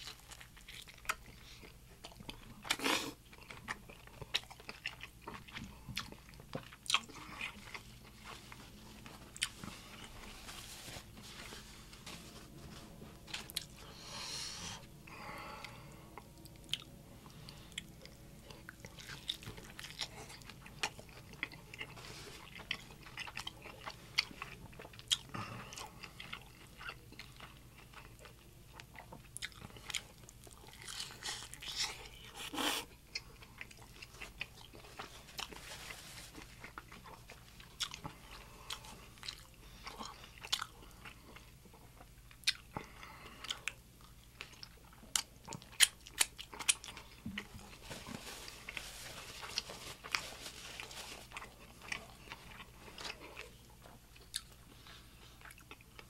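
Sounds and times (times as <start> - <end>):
man chewing crunchy food: 0.0 - 11.5, 13.3 - 35.6, 36.3 - 50.2, 50.8 - 56.0.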